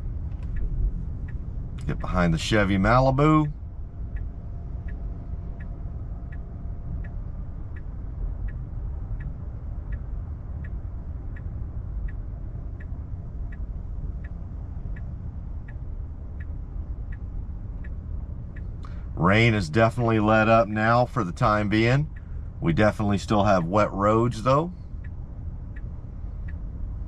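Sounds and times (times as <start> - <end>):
low cabin rumble: 0.0 - 27.0
turn signal ticking: 0.0 - 27.0.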